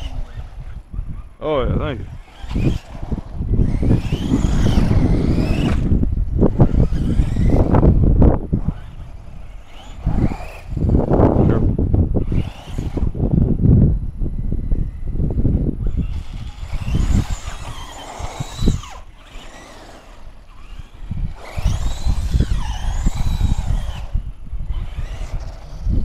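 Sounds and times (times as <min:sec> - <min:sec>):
rc car motors whining: 0:00.0 - 0:13.6, 0:14.2 - 0:26.0.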